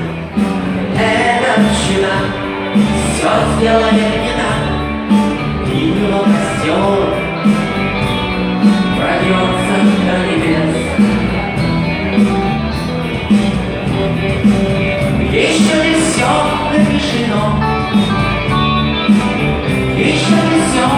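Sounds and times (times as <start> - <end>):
rock song with guitar and beat: 0.0 - 20.9.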